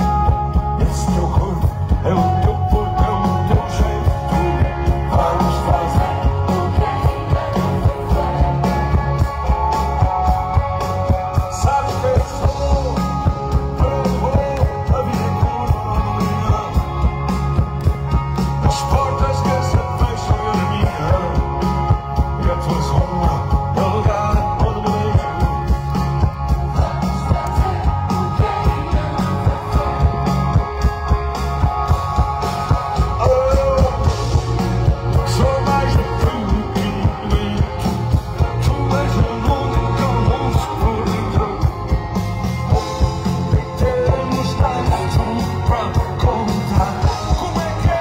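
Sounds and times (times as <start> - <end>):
live rock band playing: 0.0 - 48.0
man singing: 0.0 - 48.0.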